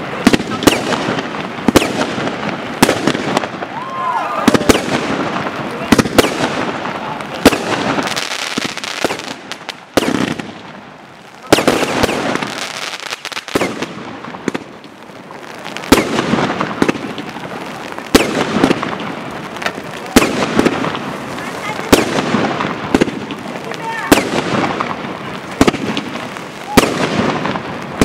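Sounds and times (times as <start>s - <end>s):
fireworks bangs: 0.0s - 28.0s
light fireworks pops: 0.0s - 28.0s.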